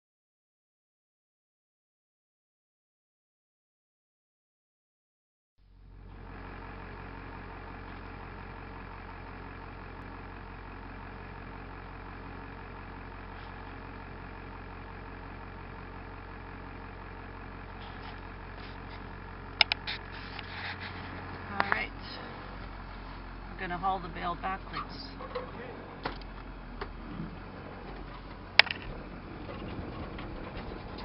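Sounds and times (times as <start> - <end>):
truck engine idling: 5.6 - 31.0.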